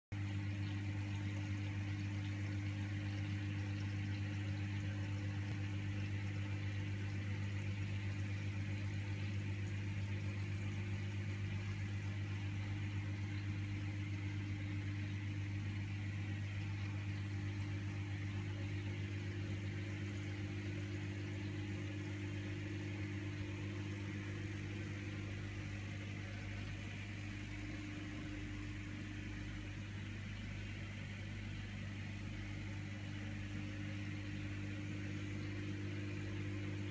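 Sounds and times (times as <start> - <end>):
aquarium pump humming: 0.1 - 36.9.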